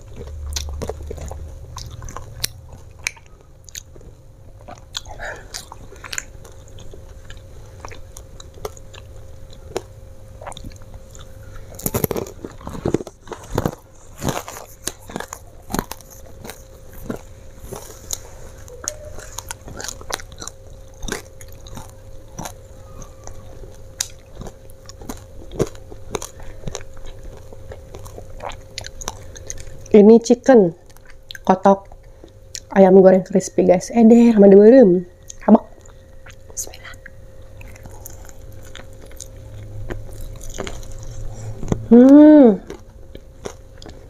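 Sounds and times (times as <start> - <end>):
crunchy snack chewing: 0.0 - 30.0, 30.8 - 32.8, 35.2 - 44.0
faint steady hum: 0.0 - 44.0.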